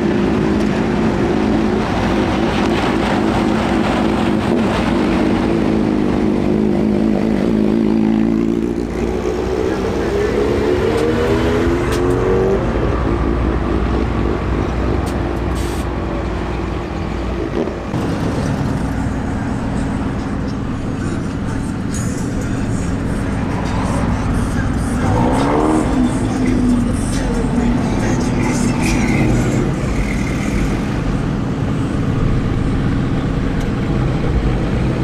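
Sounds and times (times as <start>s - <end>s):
vehicle engines rumbling: 0.0s - 35.0s
engine revving up: 0.4s - 16.0s, 17.4s - 31.5s.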